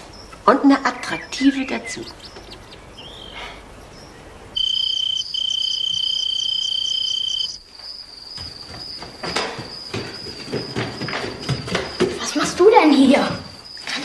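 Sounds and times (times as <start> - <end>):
faint pulsing cricket chirp: 0.0 - 14.0
loud high cricket trill: 0.0 - 14.0.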